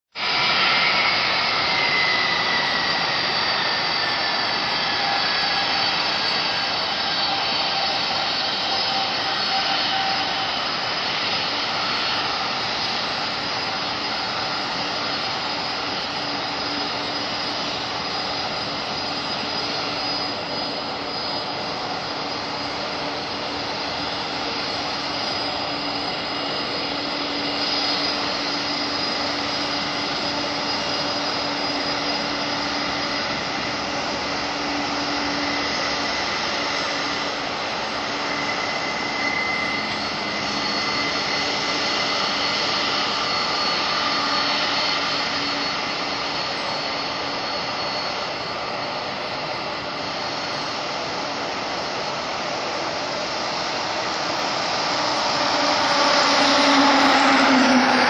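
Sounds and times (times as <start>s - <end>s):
jet engines whining: 0.1s - 58.0s.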